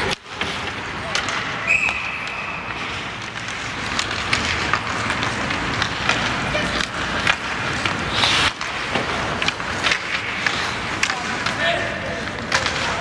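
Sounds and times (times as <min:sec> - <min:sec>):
hockey sticks and puck clacking: 0:00.0 - 0:13.0
skates scraping on ice: 0:00.0 - 0:13.0.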